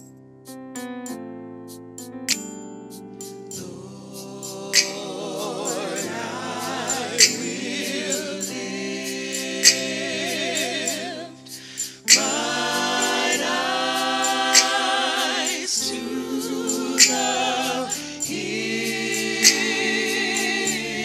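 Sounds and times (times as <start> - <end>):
keyboard: 0.0 - 21.0
gospel choir singing in harmony: 3.5 - 21.0.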